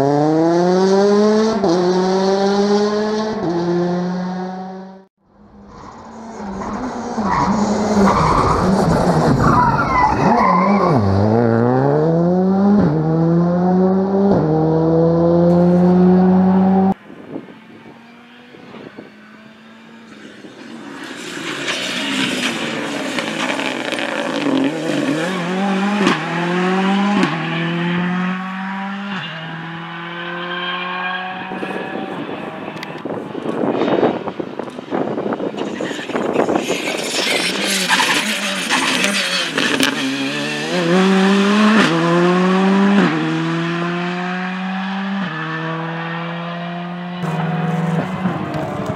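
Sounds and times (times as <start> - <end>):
rally car engine accelerating: 0.0 - 17.0, 17.7 - 34.4, 37.2 - 48.9.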